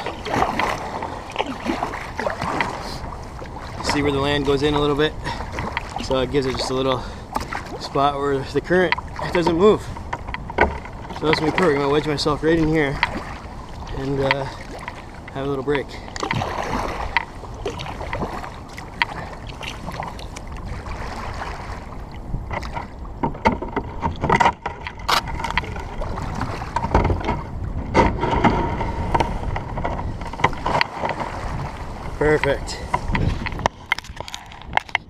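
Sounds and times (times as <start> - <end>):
water splashing around paddle: 0.0 - 35.0.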